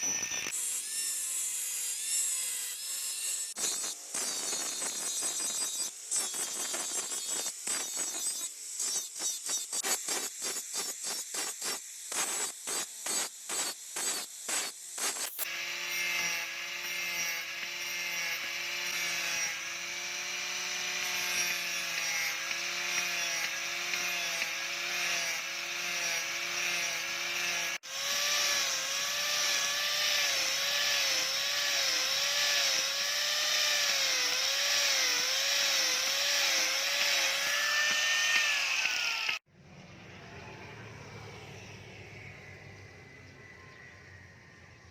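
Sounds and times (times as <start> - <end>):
power tool grinding steel: 0.0 - 39.5.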